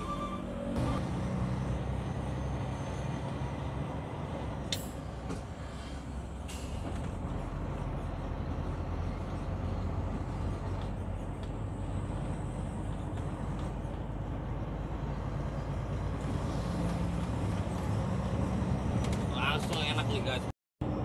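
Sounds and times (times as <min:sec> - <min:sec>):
truck engine running: 0:00.0 - 0:20.1
road noise: 0:00.0 - 0:21.0.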